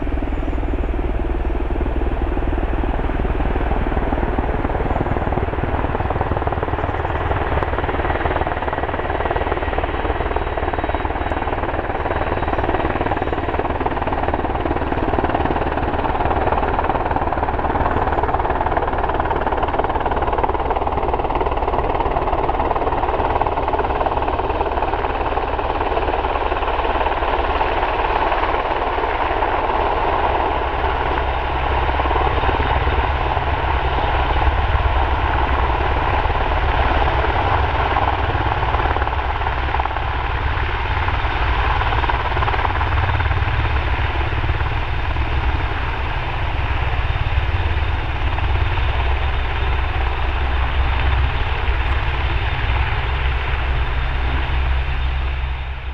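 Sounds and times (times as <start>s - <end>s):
helicopter rotor beating: 0.0s - 55.9s
high turbine engine whine: 0.0s - 55.9s.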